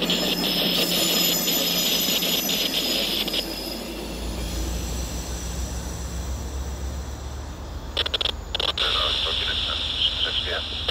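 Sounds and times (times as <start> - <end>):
train rumbling over viaduct: 0.0 - 10.9.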